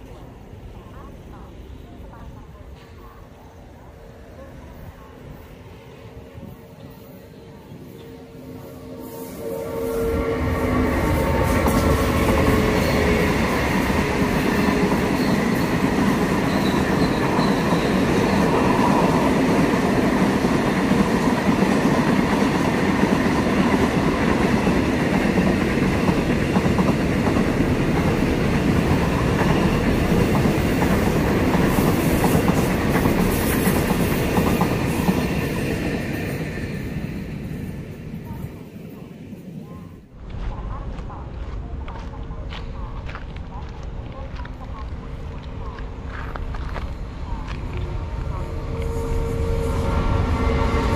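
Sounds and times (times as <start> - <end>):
diesel locomotive passing: 0.0 - 50.9.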